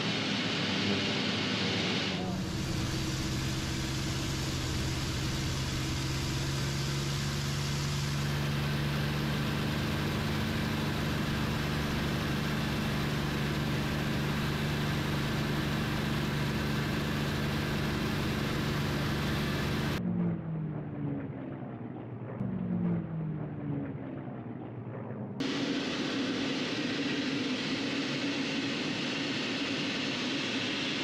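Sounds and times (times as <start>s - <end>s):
aircraft engine drone in cockpit: 0.0s - 31.0s
thinner aircraft engines shifting pitch: 0.0s - 31.0s.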